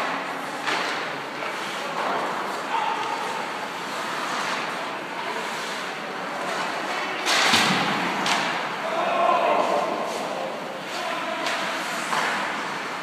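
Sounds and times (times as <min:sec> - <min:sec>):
game noise in large hall: 0:00.0 - 0:13.0.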